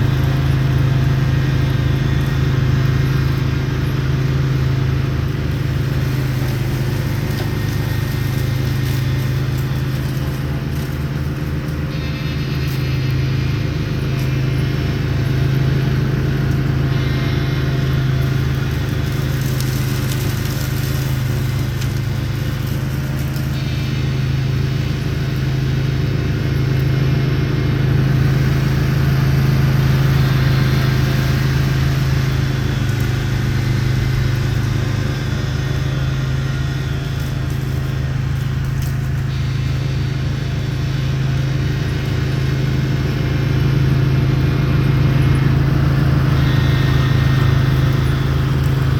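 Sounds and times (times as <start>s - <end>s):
lawn tractor engine humming: 0.0s - 48.9s
snowblower whooshing: 0.0s - 48.9s.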